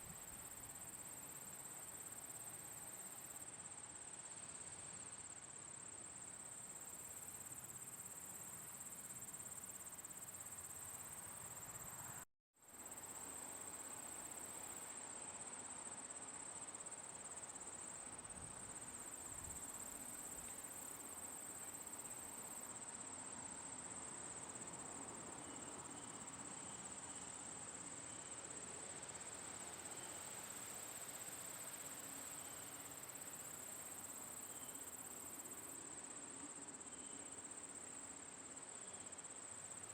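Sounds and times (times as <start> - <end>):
crickets chirping: 0.0 - 39.9
faint outdoor hiss: 0.0 - 39.9.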